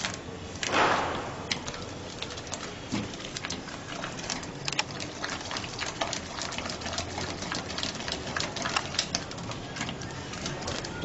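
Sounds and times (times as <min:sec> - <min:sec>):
custard bubbling: 0:00.0 - 0:11.0.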